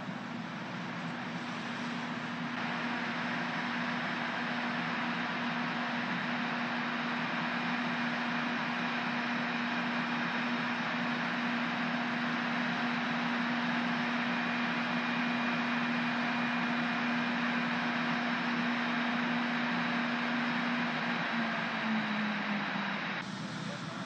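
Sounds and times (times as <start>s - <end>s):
faint high whines: 0.0s - 24.0s
train mechanical hum and hiss: 0.0s - 24.0s.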